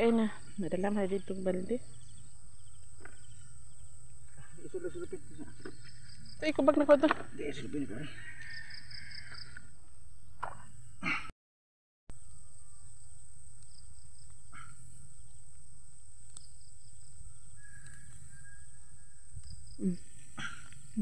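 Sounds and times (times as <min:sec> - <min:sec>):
insects chirping: 0:00.0 - 0:10.7, 0:12.1 - 0:21.0.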